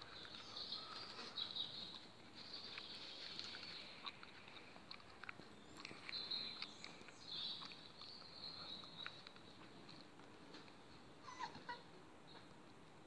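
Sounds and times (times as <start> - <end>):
puppy paws clicking on paving: 0.0 - 13.0.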